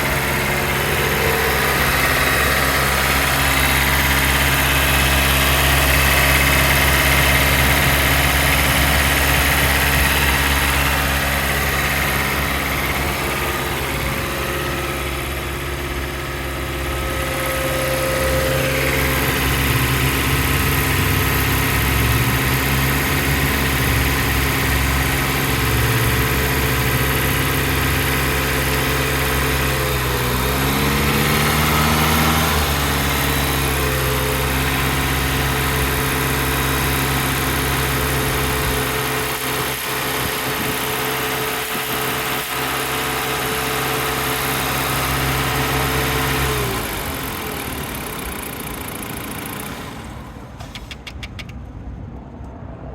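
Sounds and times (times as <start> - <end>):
car engine idling: 0.0 - 52.6.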